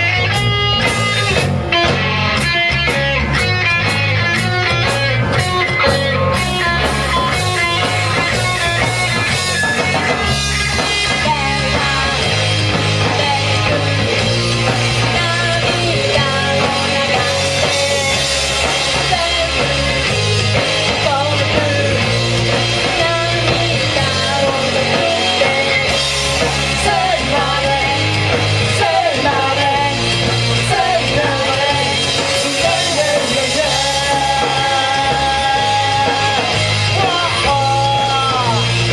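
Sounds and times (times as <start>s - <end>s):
electric guitar melody: 0.0s - 38.9s
live rock band playing: 0.0s - 38.9s.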